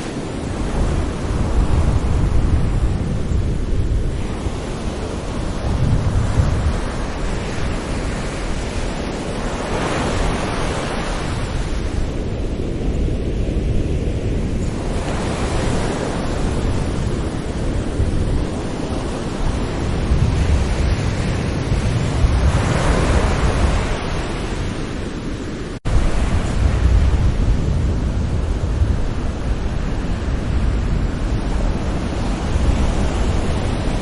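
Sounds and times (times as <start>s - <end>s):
low rumble of surf: 0.0s - 34.0s
wave washing in: 0.0s - 34.0s.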